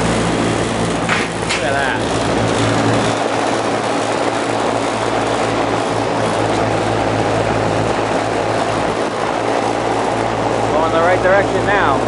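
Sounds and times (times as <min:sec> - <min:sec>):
fans blowing air: 0:00.0 - 0:12.0.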